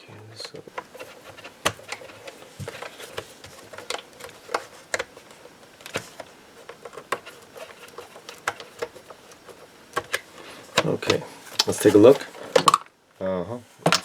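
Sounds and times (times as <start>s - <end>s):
hard plastic parts clicking: 0.2s - 12.9s.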